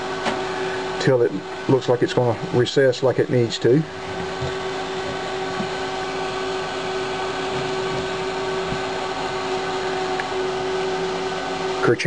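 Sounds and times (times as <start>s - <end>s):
electric fan motor hum: 0.0s - 12.0s.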